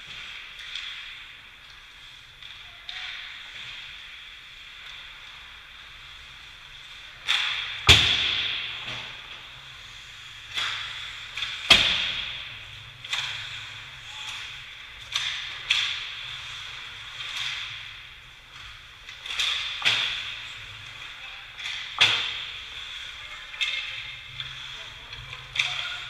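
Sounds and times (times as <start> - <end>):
puck and stick hitting boards: 0.0 - 1.9, 7.0 - 26.0.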